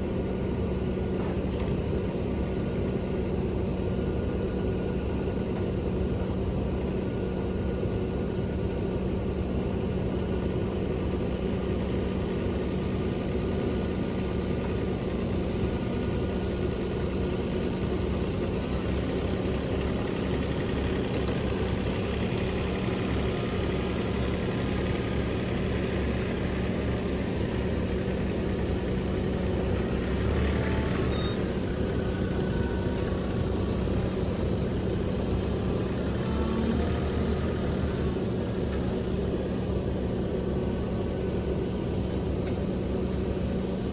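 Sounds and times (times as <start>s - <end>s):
truck engine running: 0.0s - 43.9s.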